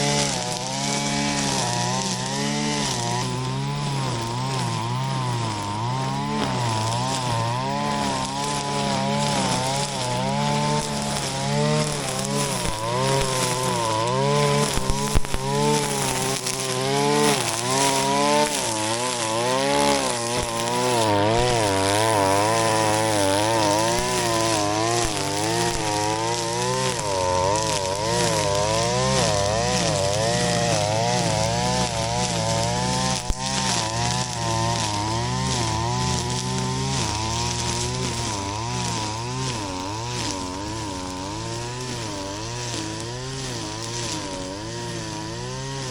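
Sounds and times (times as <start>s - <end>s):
brush cutter engine cutting grass: 0.0s - 45.9s.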